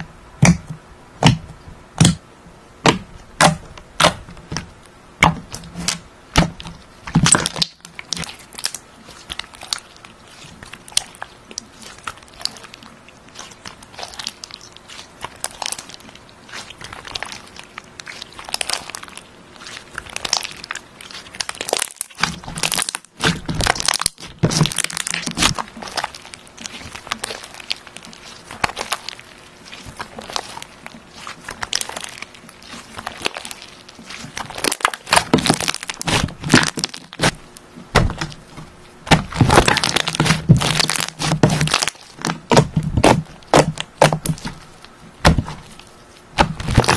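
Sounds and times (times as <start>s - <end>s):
slime crackling and popping: 2.0s - 2.2s, 2.8s - 46.9s.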